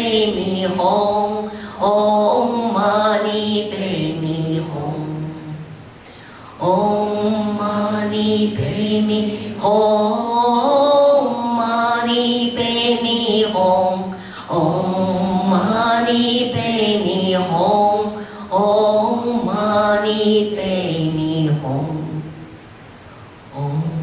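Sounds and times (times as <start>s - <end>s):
woman singing chant-like melody: 0.0s - 5.8s, 6.5s - 22.4s, 23.5s - 24.0s.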